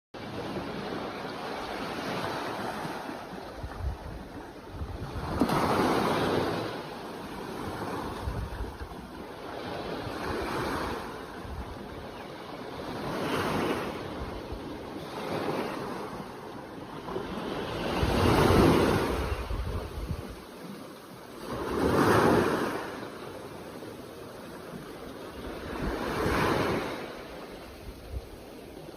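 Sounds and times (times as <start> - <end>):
wind on microphone: 0.2 - 20.6, 24.7 - 28.9
sea waves washing in: 0.2 - 28.9.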